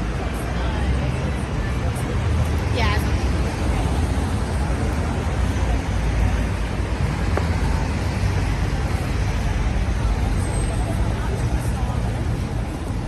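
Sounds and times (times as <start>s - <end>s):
road noise: 0.0s - 13.0s
traffic jam engine rumble: 0.0s - 13.0s.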